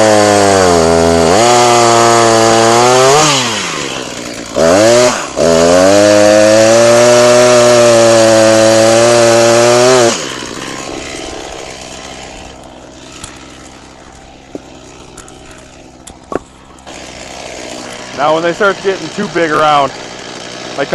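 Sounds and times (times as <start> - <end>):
chainsaw cutting log: 0.0 - 20.9
chainsaw idling: 0.0 - 20.9.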